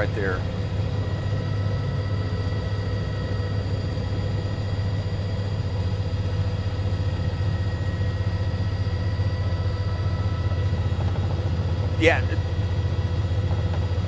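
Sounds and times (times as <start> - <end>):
helicopter rotor and engine drone: 0.0 - 14.0
high whining tones: 0.0 - 14.0.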